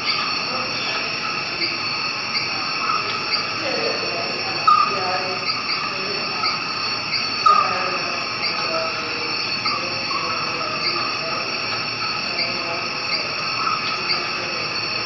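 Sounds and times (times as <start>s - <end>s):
faint chirps: 0.0s - 15.0s
high-pitched whine: 0.0s - 15.0s.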